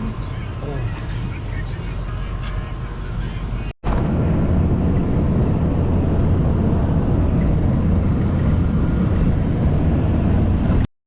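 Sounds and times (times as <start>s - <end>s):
road vehicle rumble: 0.0s - 10.9s.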